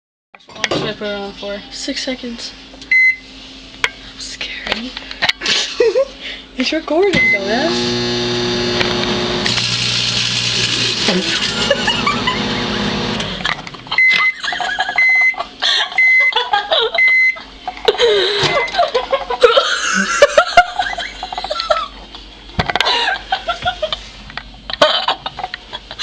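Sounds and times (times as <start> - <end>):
microwave oven humming: 0.9 - 26.0.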